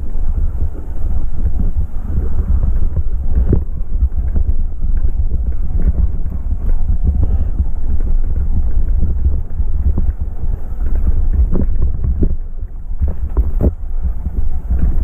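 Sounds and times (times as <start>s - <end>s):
bike knocks and rattles: 0.0s - 15.0s
wind buffeting microphone: 0.0s - 15.0s.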